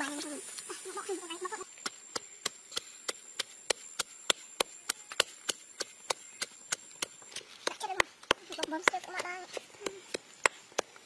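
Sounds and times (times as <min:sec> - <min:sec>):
pestle pounding in a mortar: 0:01.8 - 0:10.9.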